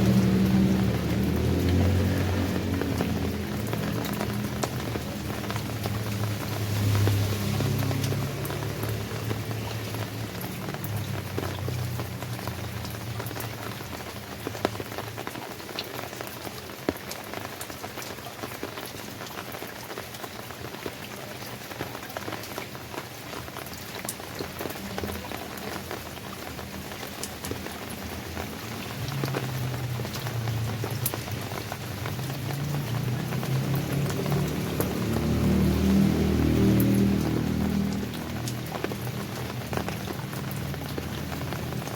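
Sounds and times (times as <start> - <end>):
raindrops tapping a surface: 0.0 - 41.9
steady rain hiss: 0.0 - 41.9.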